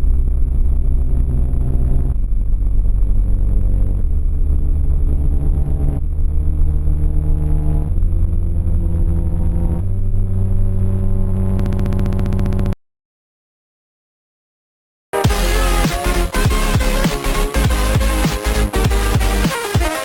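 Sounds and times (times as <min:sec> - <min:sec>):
low distorted droning tones: 0:00.0 - 0:12.8, 0:15.2 - 0:19.5.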